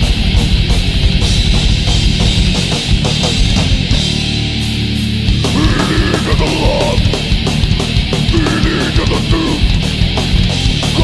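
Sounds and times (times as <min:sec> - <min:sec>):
bass guitar: 0:00.0 - 0:11.0
distorted electric guitars: 0:00.0 - 0:11.0
fast drums: 0:00.0 - 0:11.0.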